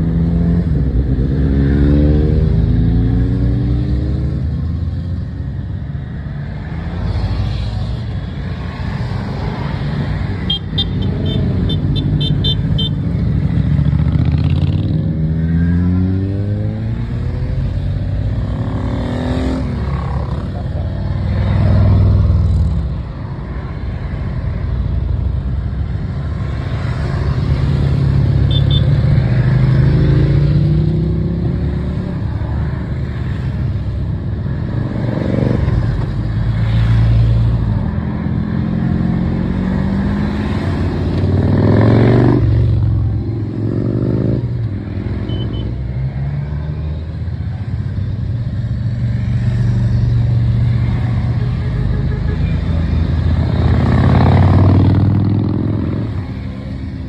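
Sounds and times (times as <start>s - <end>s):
motorcycles passing: 0.0s - 57.0s.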